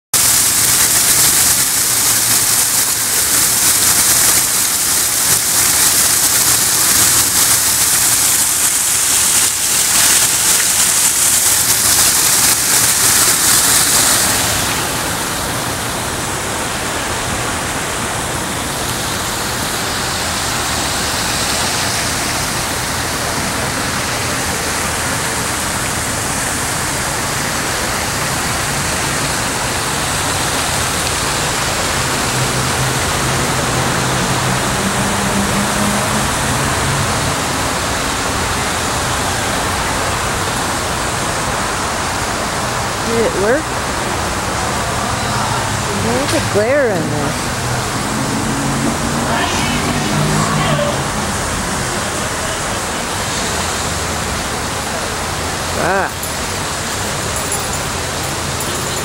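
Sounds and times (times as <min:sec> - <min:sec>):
waterfall splashing into pool: 0:00.2 - 0:59.0.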